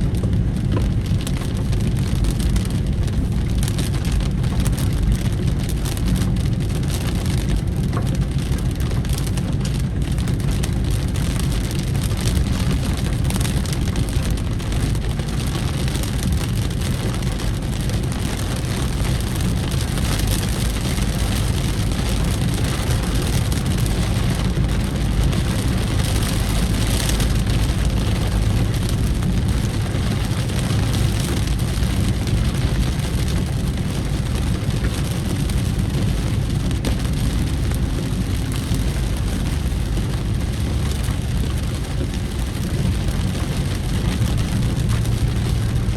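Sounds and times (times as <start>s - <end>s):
rain and wet tyres hissing: 0.0s - 45.9s
vehicle low rumble: 0.0s - 45.9s.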